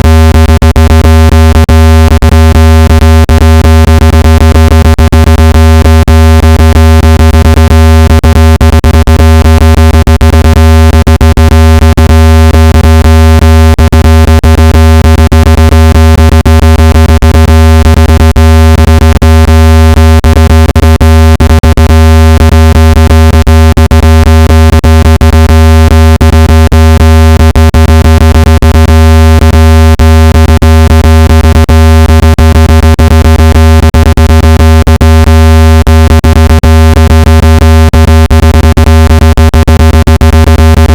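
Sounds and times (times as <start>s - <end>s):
loud low buzzing tone: 0.0s - 40.9s.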